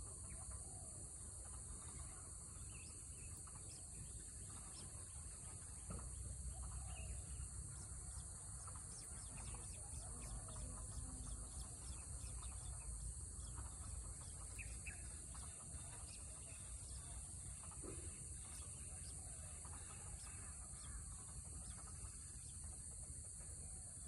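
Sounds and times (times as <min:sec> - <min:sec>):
faint bird chirps: 0:00.0 - 0:23.9
high-pitched insect drone: 0:00.0 - 0:24.0.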